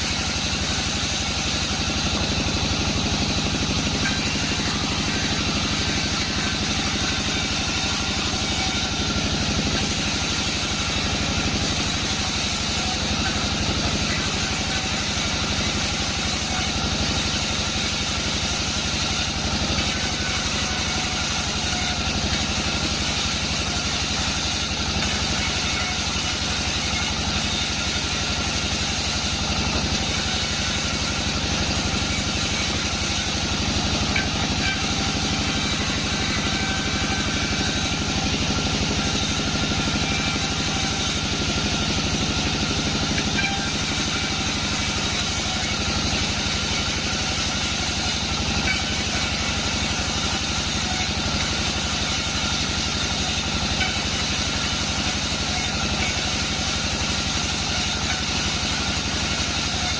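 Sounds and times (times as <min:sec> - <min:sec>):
bandsaw engine running: 0:00.0 - 0:59.9.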